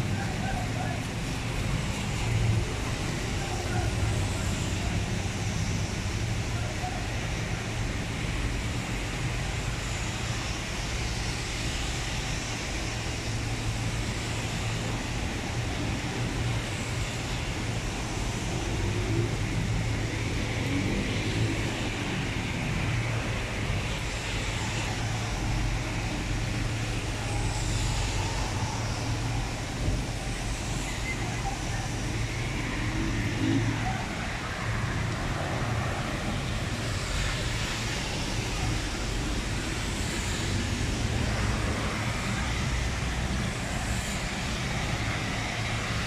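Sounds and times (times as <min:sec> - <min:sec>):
car tyres swishing on wet road: 0:00.0 - 0:46.0
heavy rain: 0:00.0 - 0:46.0.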